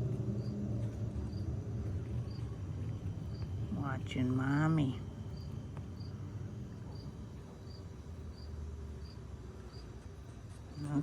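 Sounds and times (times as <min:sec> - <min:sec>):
cricket chirping: 0:00.0 - 0:11.0
low steady hum: 0:00.0 - 0:11.0.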